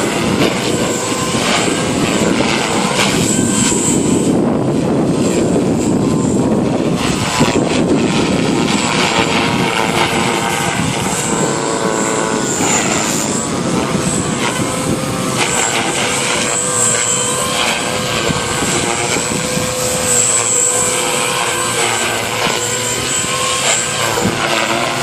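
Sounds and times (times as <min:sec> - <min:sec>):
model helicopter rotor whine: 0:00.0 - 0:25.0.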